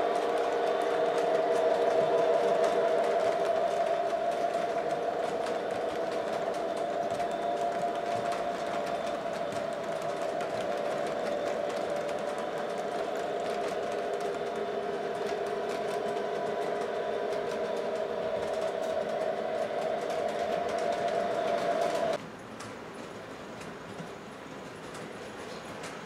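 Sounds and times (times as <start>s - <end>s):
model train cars rolling on track: 0.0s - 26.0s.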